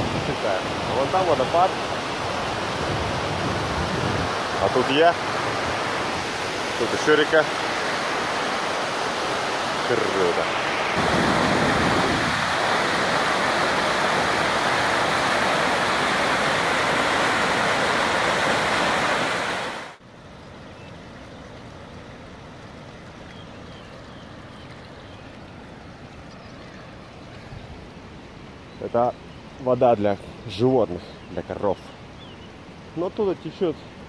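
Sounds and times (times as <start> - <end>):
mountain stream roaring over boulders: 0.0 - 34.0
quiet steady water: 0.0 - 34.0.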